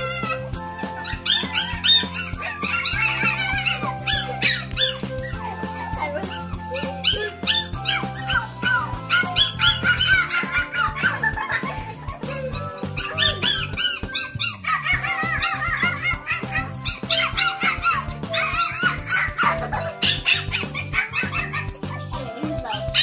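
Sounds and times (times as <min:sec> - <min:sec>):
background music: 0:00.0 - 0:23.0
puppy yipping and squeaking: 0:00.0 - 0:23.0.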